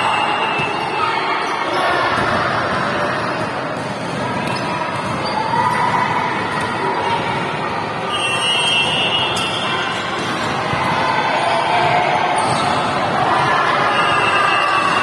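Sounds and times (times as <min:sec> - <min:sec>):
echoing clamour of players: 0:00.0 - 0:15.0
volleyballs struck and bouncing: 0:02.0 - 0:08.0, 0:08.8 - 0:15.0.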